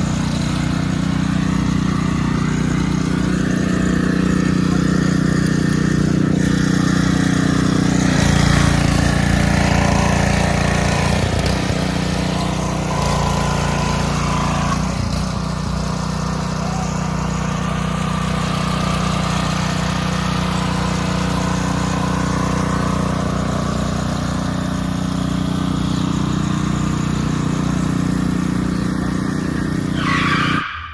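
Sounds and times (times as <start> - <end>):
small engine running: 0.0 - 30.7.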